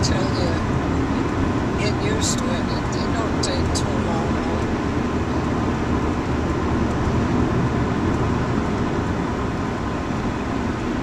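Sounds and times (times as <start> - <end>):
car driving road noise: 0.0 - 11.0.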